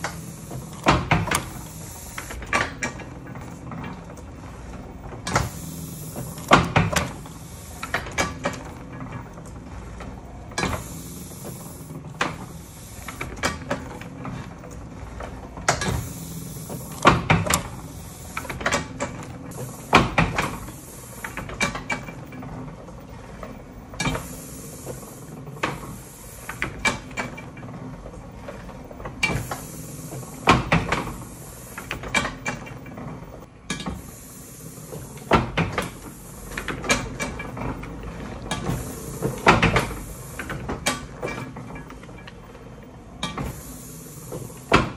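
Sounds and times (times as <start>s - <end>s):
printing press clanking: 0.0s - 44.9s.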